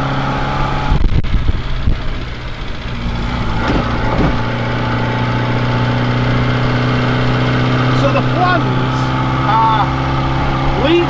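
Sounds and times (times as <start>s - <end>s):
car engine running inside car: 0.0s - 11.0s.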